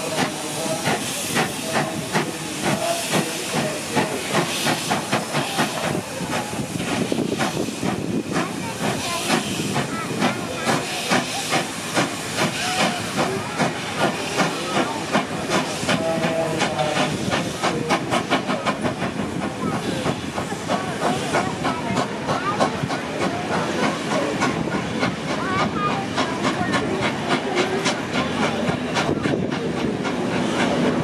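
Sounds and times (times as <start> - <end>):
steam hissing: 0.0 - 31.0
steam locomotive exhaust chuffing: 0.0 - 31.0.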